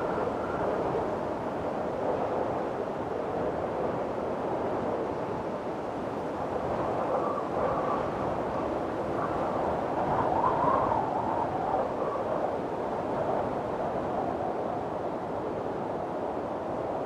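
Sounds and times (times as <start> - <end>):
strong wind blowing: 0.0 - 17.0.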